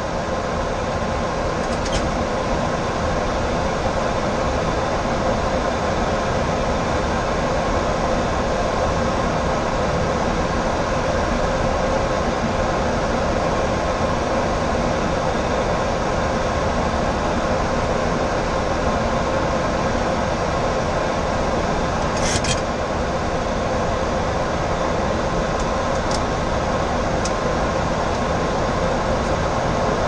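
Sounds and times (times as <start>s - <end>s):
air-conditioning: 0.0s - 30.0s
airflow over cockpit windscreen: 0.0s - 30.0s.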